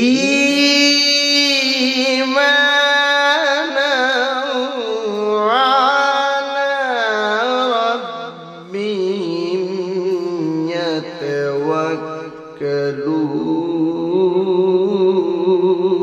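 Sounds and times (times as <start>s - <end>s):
man reciting in melodic chant: 0.0s - 16.0s.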